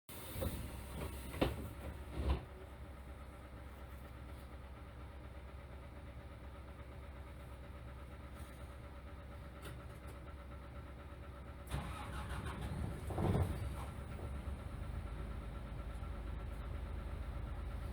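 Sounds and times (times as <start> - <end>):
bus diesel engine idling: 0.1 - 17.9.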